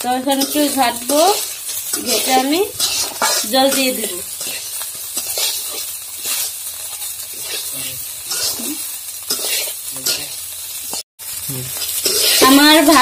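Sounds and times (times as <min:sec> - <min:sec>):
rice sizzling in hot oil: 0:00.0 - 0:13.0
metal spatula scraping pan: 0:00.2 - 0:11.0, 0:11.9 - 0:13.0.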